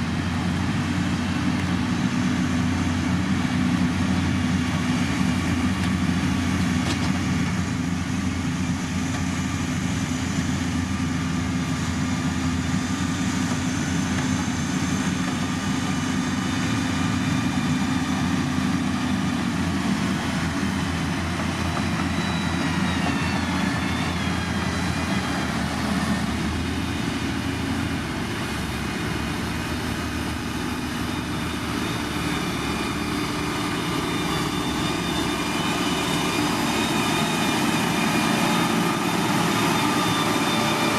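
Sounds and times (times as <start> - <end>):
diesel machinery engine drone: 0.0 - 40.9.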